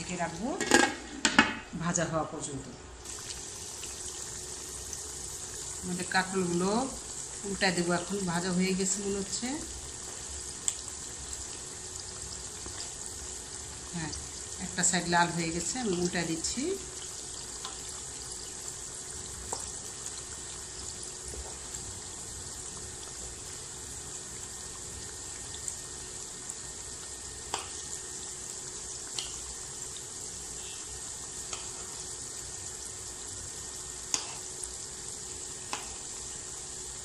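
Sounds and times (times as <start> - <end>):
vegetables sizzling in hot oil: 2.4 - 37.0.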